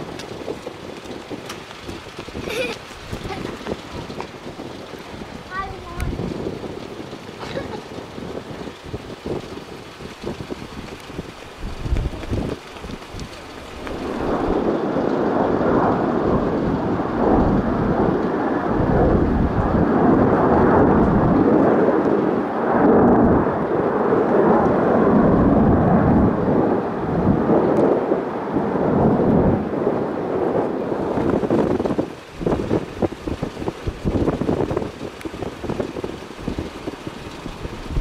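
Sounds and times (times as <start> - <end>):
jet airliner engines roaring: 0.0 - 38.0.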